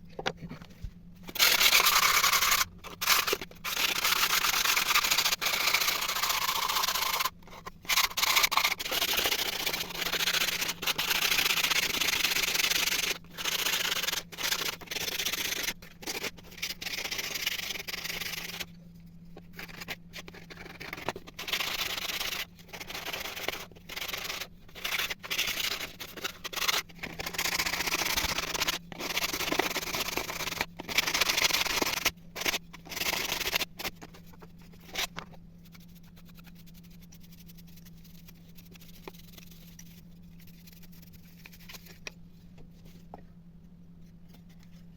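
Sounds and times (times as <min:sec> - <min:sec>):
sandpaper rubbing: 0:01.4 - 0:07.3, 0:07.9 - 0:18.7, 0:19.6 - 0:33.9, 0:34.7 - 0:42.0.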